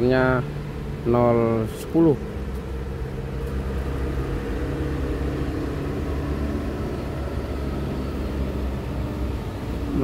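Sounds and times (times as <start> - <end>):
engine running with low hum: 0.0 - 10.0.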